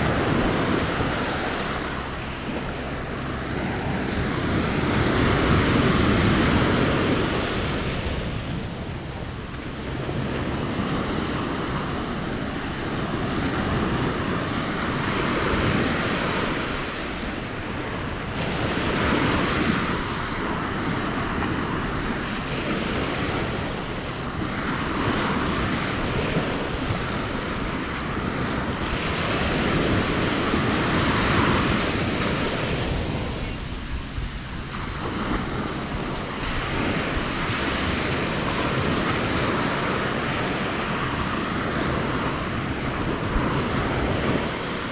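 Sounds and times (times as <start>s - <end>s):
surf washing up beach: 0.0s - 44.9s
wind buffeting microphone: 0.0s - 44.9s.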